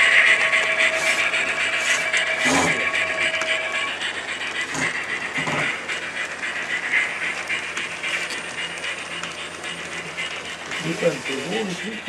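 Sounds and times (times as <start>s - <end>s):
model train wheels clattering: 0.0s - 12.0s.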